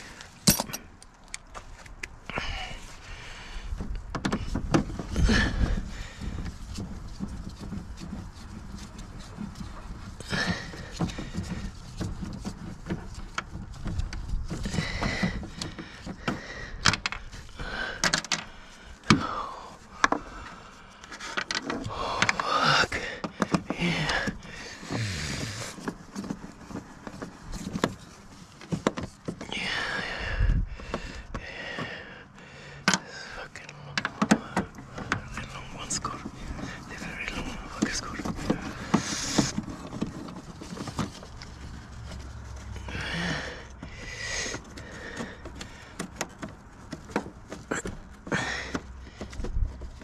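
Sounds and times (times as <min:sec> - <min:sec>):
plastic scraping and rubbing: 0:01.1 - 0:32.0, 0:32.8 - 0:50.0.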